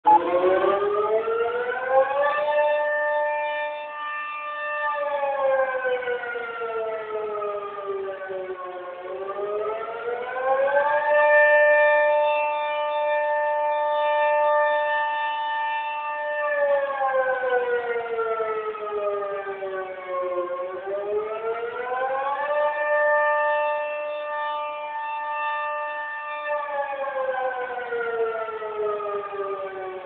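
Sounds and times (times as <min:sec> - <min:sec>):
warning siren wailing: 0:00.0 - 0:30.0.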